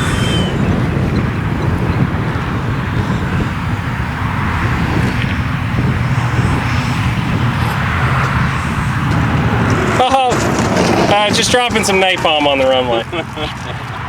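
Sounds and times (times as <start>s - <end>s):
model jet rushing noise: 0.0s - 12.8s.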